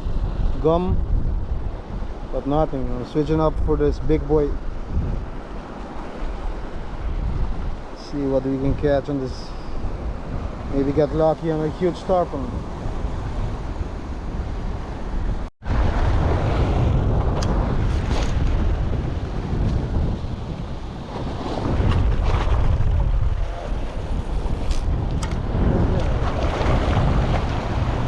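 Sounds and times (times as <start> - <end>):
surf washing: 0.0 - 28.0
wind buffeting microphone: 0.0 - 28.0.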